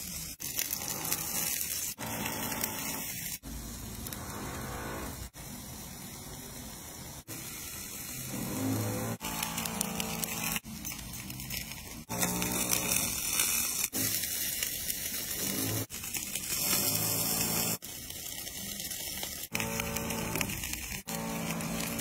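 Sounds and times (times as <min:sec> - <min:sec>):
food sizzling on a grill: 0:00.0 - 0:22.0.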